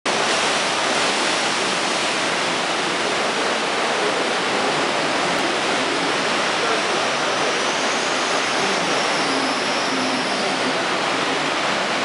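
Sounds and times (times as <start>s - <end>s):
surf churning over rocks: 0.1s - 12.0s.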